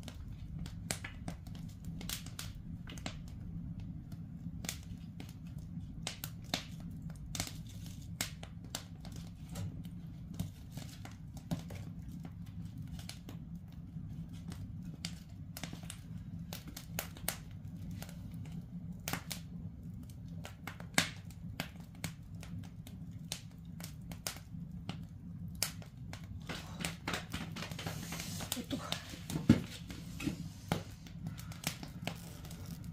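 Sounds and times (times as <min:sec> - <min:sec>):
low rumble of fire: 0:00.0 - 0:32.9
wood fire crackling and popping: 0:00.0 - 0:32.9.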